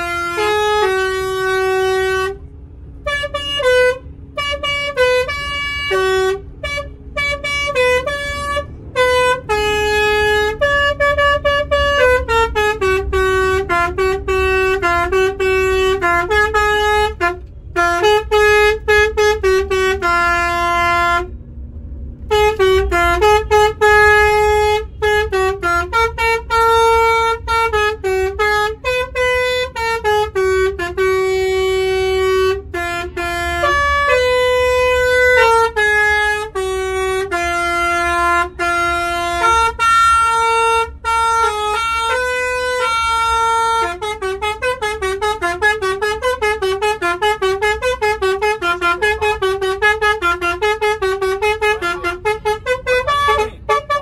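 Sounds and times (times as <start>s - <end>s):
musical bus horn tune: 0.0s - 21.6s, 22.2s - 54.0s.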